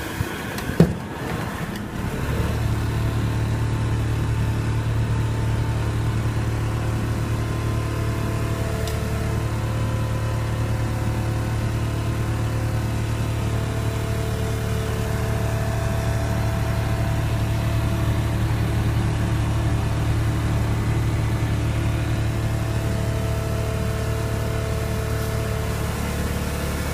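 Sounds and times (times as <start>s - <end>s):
motor humming: 0.0s - 26.9s
motor vibration noise: 0.0s - 26.9s.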